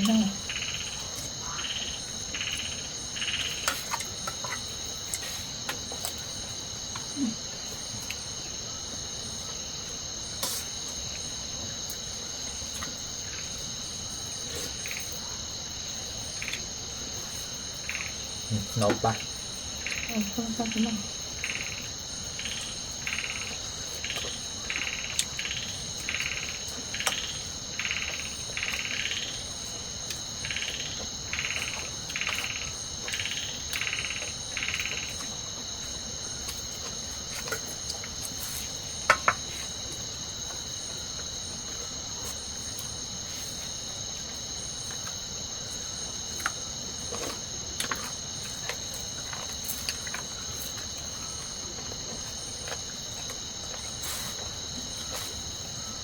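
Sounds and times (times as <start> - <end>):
crickets and insects chorus: 0.0 - 56.0
rasping pulsing insect call: 0.0 - 56.0.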